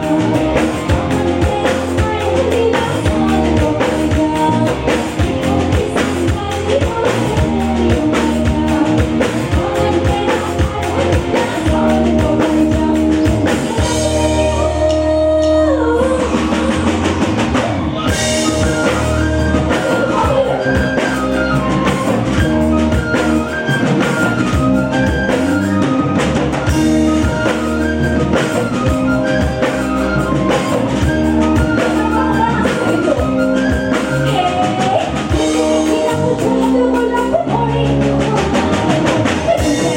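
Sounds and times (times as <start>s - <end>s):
woman singing: 0.0s - 25.9s, 26.9s - 39.9s
drum kit beat: 0.0s - 39.9s
live band music: 0.0s - 39.9s.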